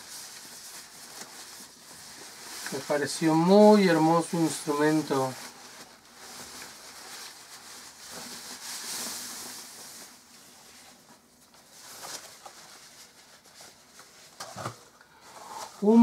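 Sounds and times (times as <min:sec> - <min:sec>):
paper packing rustling: 0:00.0 - 0:16.0.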